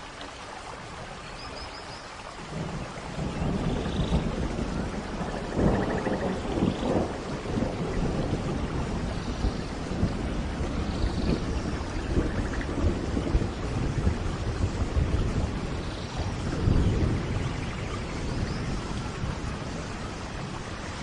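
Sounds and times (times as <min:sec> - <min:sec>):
steady rain: 0:00.0 - 0:21.0
rolling thunder: 0:02.4 - 0:21.0.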